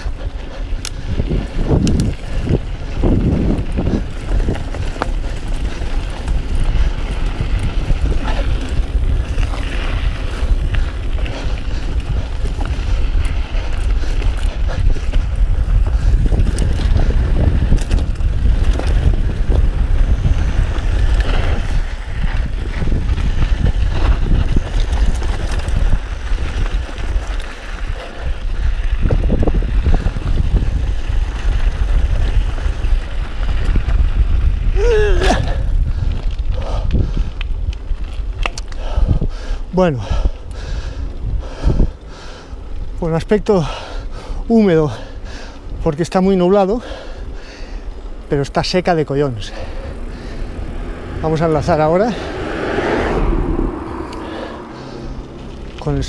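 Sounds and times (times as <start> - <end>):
bike rattling over dirt trail: 0.0 - 56.0
wind buffeting microphone: 0.0 - 56.0.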